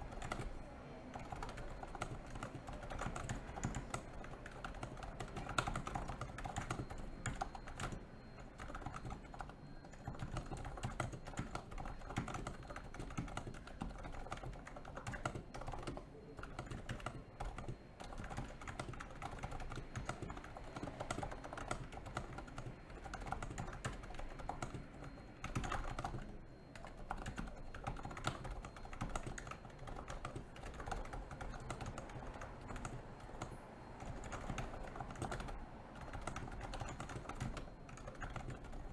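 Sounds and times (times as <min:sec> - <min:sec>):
keyboard typing: 0:00.0 - 0:38.9.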